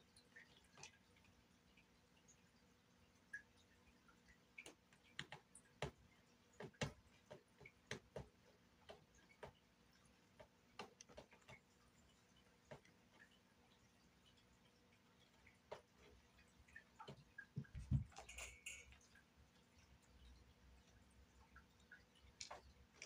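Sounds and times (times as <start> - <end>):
cat paws tapping and scratching: 3.3 - 23.0.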